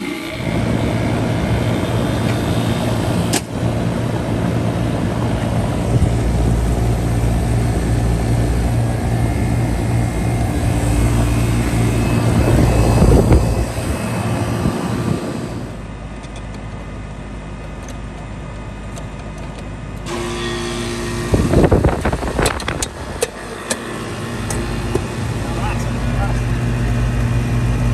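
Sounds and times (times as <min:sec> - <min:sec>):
air conditioner units humming: 0:00.0 - 0:27.9.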